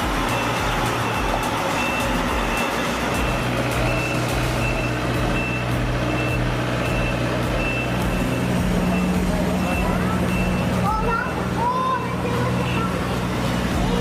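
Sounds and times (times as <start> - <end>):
truck reversing alarm beeping: 0.0 - 13.0
truck engine running: 0.0 - 14.0.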